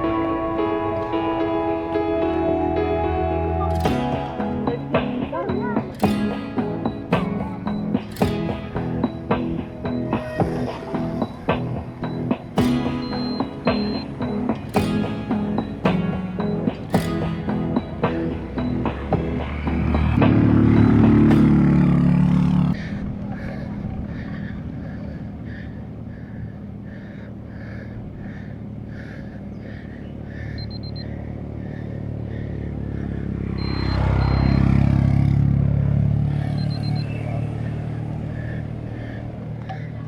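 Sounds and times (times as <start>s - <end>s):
road rumble: 0.0s - 40.0s
vehicles passing on road: 0.0s - 40.0s.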